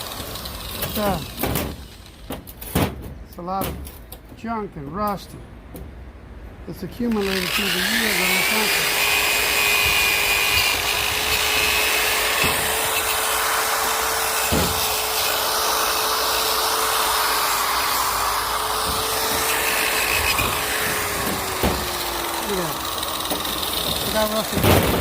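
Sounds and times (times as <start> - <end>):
electric drill with wire brush: 0.0 - 2.3, 7.1 - 25.0.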